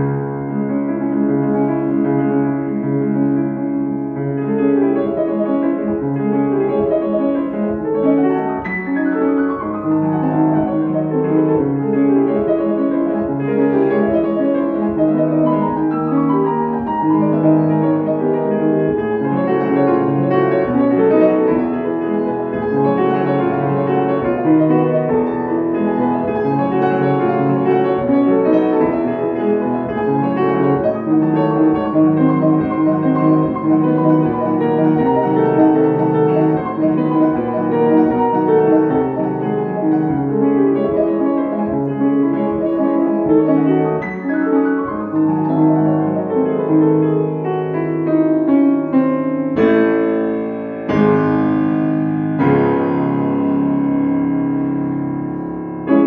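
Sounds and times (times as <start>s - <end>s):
solo classical piano piece: 0.0s - 56.0s.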